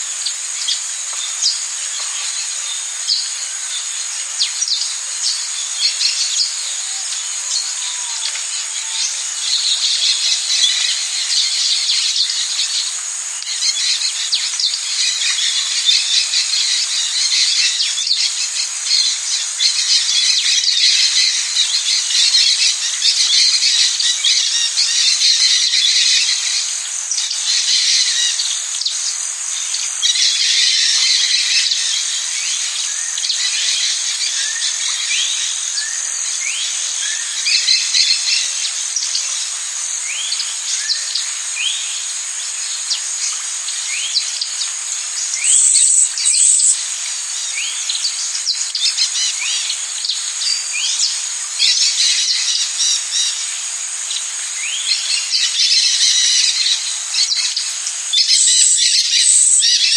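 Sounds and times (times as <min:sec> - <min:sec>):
birds calling: 0:00.0 - 0:59.9
high-pitched insect chorus: 0:00.0 - 0:59.9.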